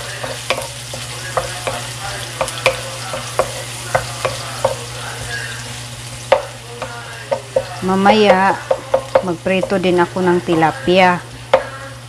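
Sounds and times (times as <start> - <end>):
onion sizzling in a pan: 0.0 - 12.0
wooden spoon knocking pan: 0.1 - 5.3, 6.3 - 10.7, 11.5 - 11.8.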